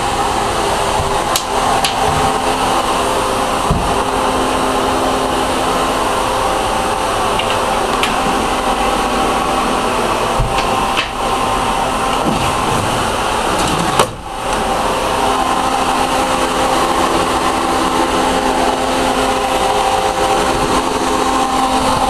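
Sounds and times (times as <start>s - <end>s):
mechanical drone with hum: 0.0s - 22.0s.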